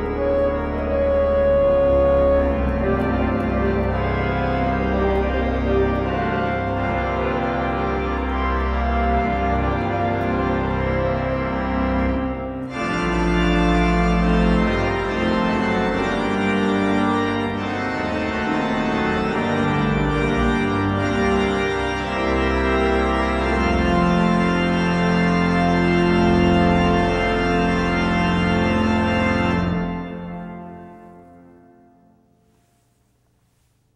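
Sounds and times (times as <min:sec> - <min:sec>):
deep organ pedal bass: 0:00.0 - 0:31.2
pipe organ chords: 0:00.0 - 0:32.7.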